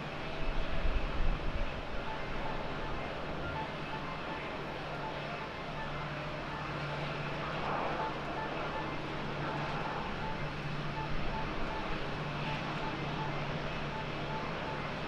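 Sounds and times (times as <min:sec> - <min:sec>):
airport noise: 0:00.0 - 0:15.0
distant jet engine hum: 0:00.0 - 0:15.0.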